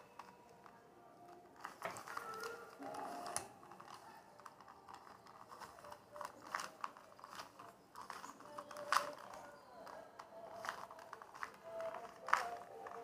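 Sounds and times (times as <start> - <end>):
puzzle cube clicking: 1.3 - 13.0.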